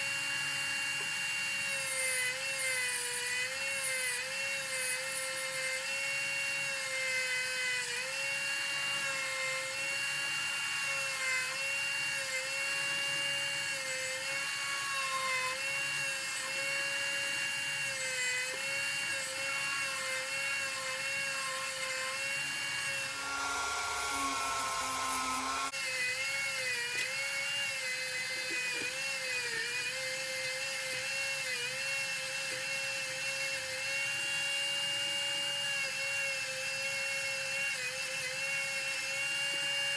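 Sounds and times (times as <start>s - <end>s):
rotary tool whining: 0.0s - 39.9s.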